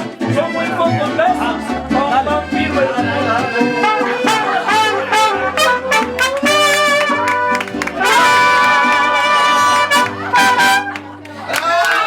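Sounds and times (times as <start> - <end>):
bass line: 0.0 - 11.2
brass section playing: 0.5 - 11.3.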